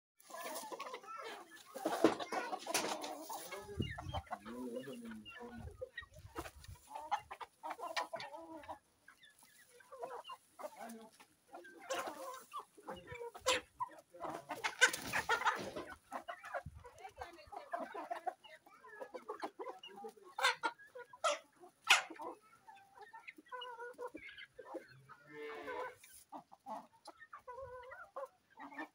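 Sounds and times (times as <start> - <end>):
chickens clucking: 0.2 - 28.9.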